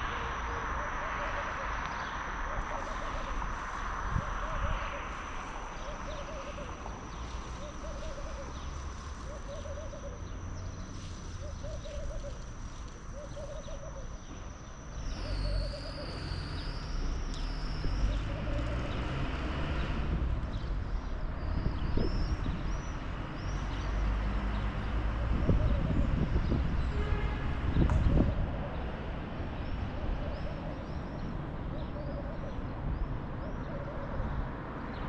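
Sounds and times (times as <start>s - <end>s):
bird low hooting call: 0.0s - 27.4s, 28.0s - 34.5s.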